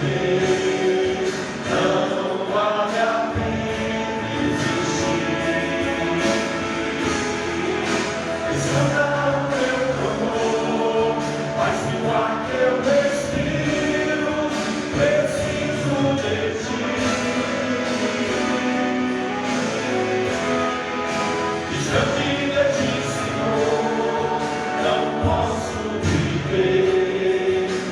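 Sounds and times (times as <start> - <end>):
instrumental accompaniment: 0.0 - 27.9
voices singing gospel song: 0.0 - 27.9.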